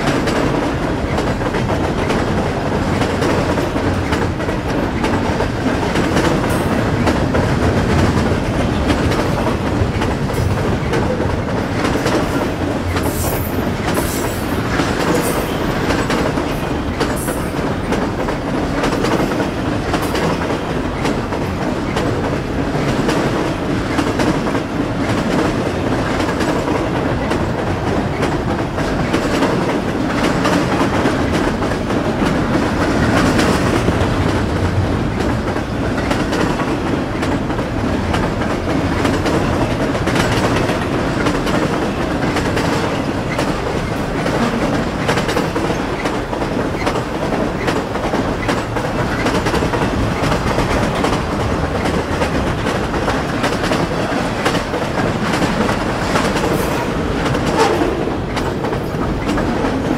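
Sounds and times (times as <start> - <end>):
freight train rumble and rattle: 0.0 - 59.9
wheels clicking over rail joints: 0.0 - 59.9.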